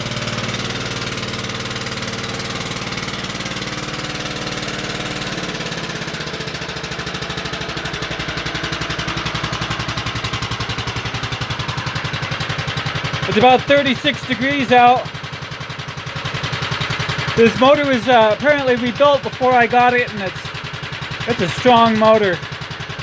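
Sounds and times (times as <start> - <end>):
single-cylinder engine idling: 0.0 - 23.0.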